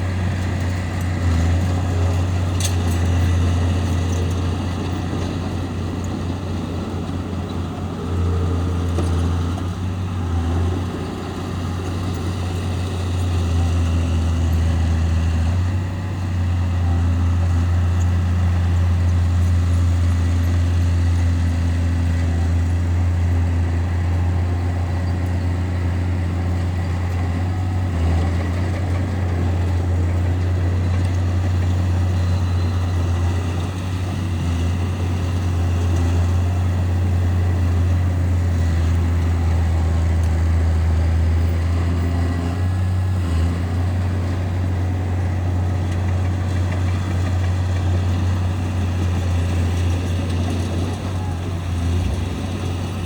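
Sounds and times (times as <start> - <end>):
bulldozer diesel engine drone: 0.0 - 53.0.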